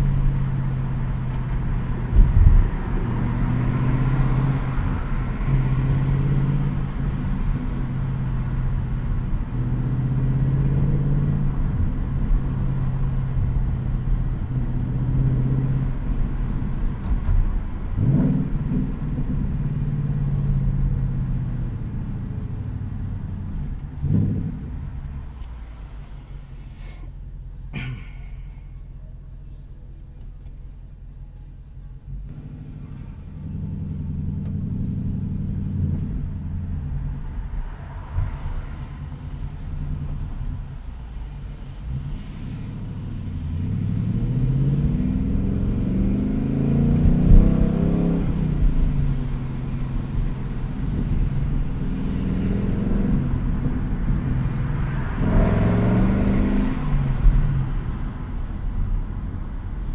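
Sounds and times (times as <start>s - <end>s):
car engine revving while driving: 0.0s - 25.3s, 32.2s - 40.7s, 41.4s - 59.9s.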